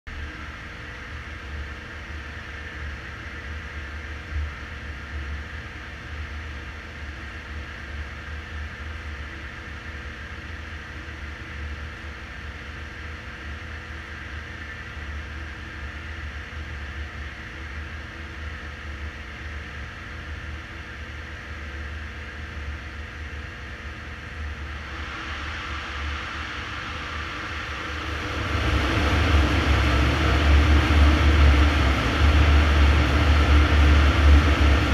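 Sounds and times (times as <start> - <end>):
large cooling fan rushing: 0.1 - 34.9.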